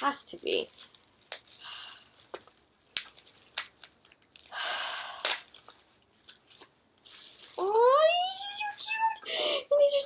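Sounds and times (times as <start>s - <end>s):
wrapping rustling and snapping: 0.0s - 9.2s
packaging crinkling: 0.3s - 8.9s.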